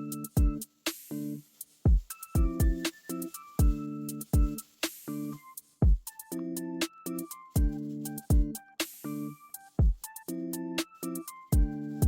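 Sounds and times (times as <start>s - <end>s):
electronic music with drum machine: 0.0s - 12.0s.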